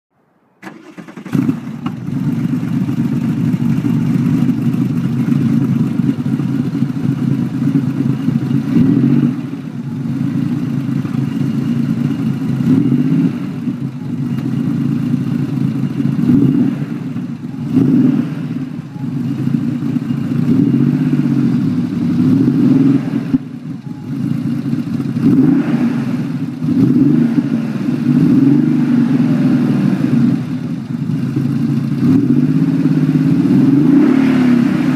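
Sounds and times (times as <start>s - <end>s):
car engine idling with throttle blips: 0.6s - 34.9s.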